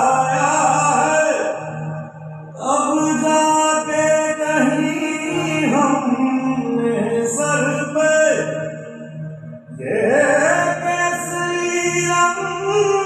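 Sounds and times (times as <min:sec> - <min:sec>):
person singing: 0:00.0 - 0:13.0.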